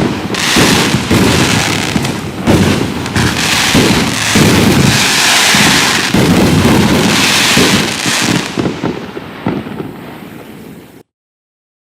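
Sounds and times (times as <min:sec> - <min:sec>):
fireworks bursts and crackle: 0:00.0 - 0:11.1.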